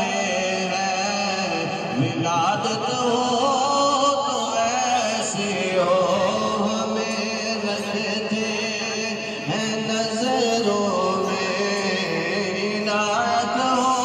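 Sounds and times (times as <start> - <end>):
man chanting into microphone: 0.0 - 14.0.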